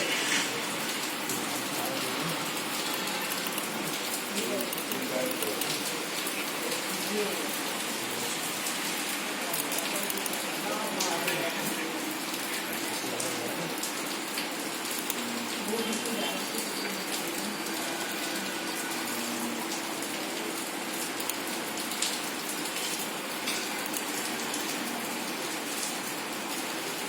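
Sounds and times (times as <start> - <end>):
steady rain pattering: 0.0 - 27.0.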